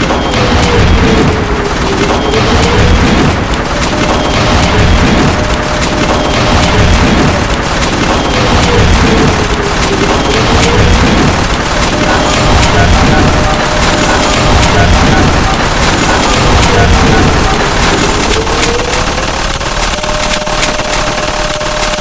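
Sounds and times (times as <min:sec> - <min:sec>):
booming explosions: 0:00.0 - 0:22.0
rapid gunfire: 0:00.0 - 0:22.0.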